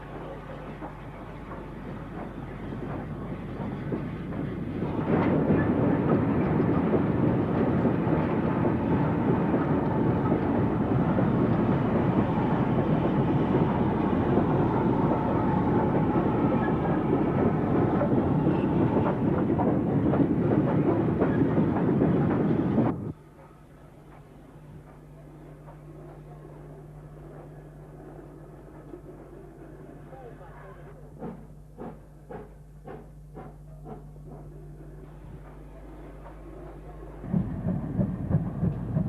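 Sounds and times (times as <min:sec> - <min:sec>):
steam train running past: 0:00.0 - 0:39.0.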